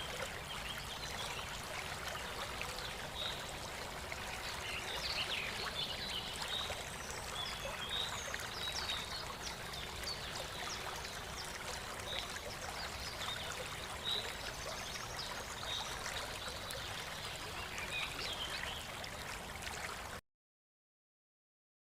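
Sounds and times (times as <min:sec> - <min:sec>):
stream water rushing: 0:00.0 - 0:20.2.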